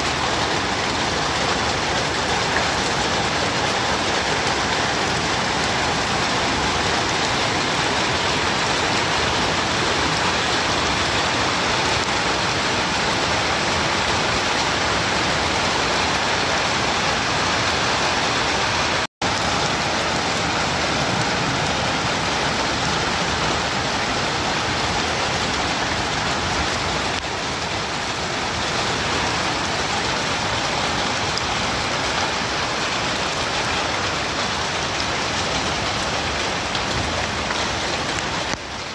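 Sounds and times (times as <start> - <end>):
heavy rain and hail: 0.0 - 38.9.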